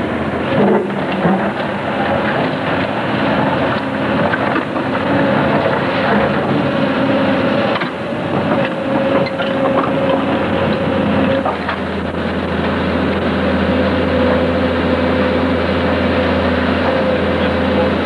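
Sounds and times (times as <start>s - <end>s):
excavator diesel engine: 0.0s - 18.0s.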